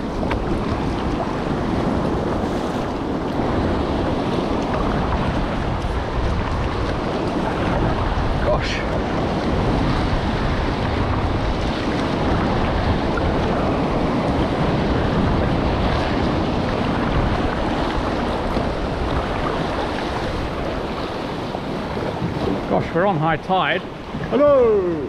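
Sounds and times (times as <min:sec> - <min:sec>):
sea waves washing: 0:00.0 - 0:25.0
wind noise on microphone: 0:00.0 - 0:25.0.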